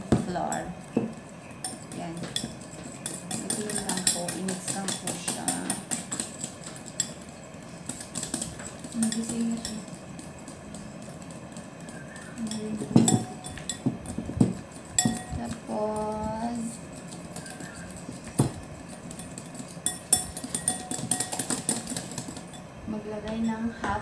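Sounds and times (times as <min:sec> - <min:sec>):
whisk beating batter: 0:00.0 - 0:22.7
metal clinking against glass: 0:00.3 - 0:16.1, 0:16.8 - 0:22.7.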